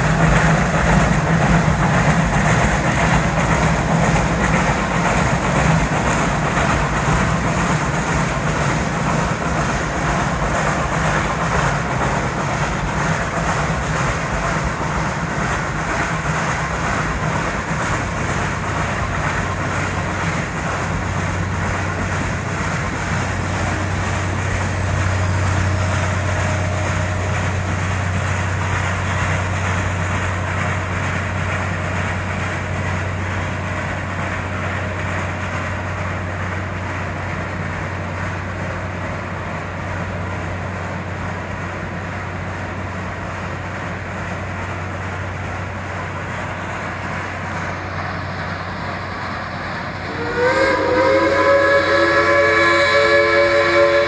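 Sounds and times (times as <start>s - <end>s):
steam train rumbling past: 0.0s - 54.0s.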